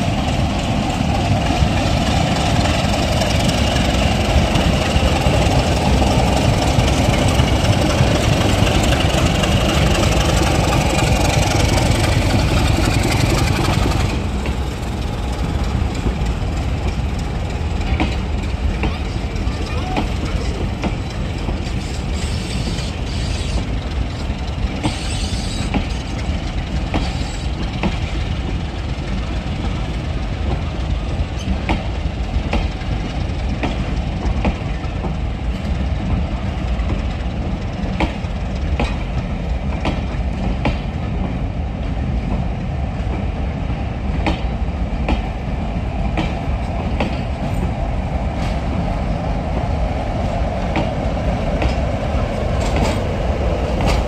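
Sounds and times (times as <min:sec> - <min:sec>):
wheels clicking over rail joints: 0:00.0 - 0:43.4, 0:44.0 - 0:54.0
diesel train rumbling: 0:00.0 - 0:54.0.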